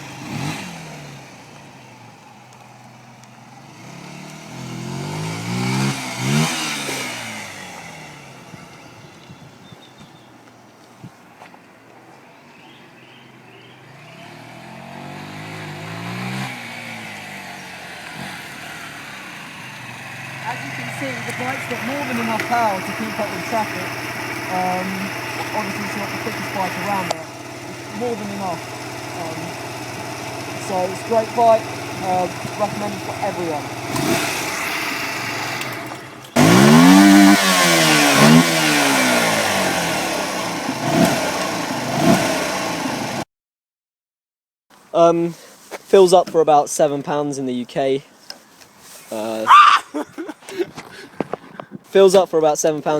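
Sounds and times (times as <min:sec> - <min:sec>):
motorcycle engine accelerating: 0:00.0 - 0:43.2.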